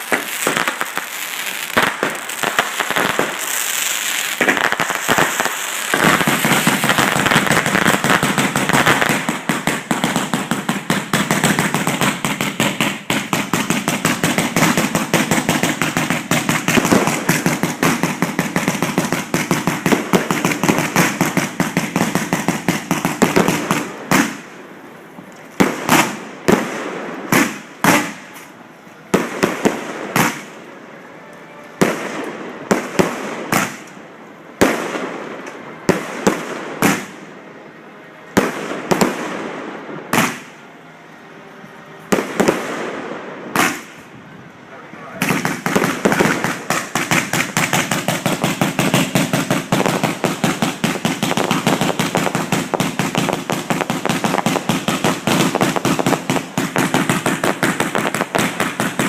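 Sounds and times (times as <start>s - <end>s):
fireworks bangs: 0.0s - 40.8s, 42.0s - 59.0s.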